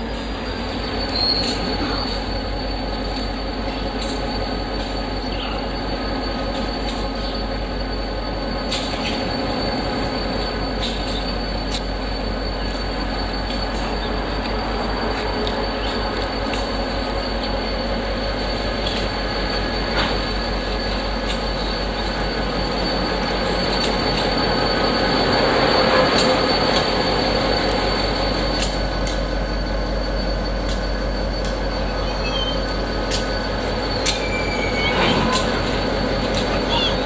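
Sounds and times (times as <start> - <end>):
diesel locomotive engine rumble: 0.0 - 37.0
wheel squeals: 0.0 - 37.0
wheels clicking on track: 1.0 - 7.7, 8.4 - 29.3, 30.6 - 37.0.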